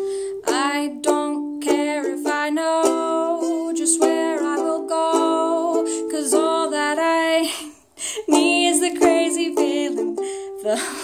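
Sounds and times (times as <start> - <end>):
ukulele strumming: 0.0 - 7.5, 8.2 - 11.0
woman singing: 0.0 - 11.0.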